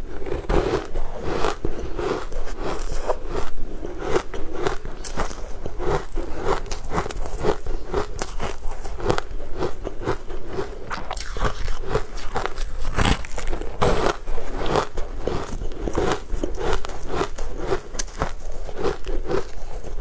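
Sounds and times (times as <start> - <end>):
person chewing crunchy cake: 0.0 - 20.0.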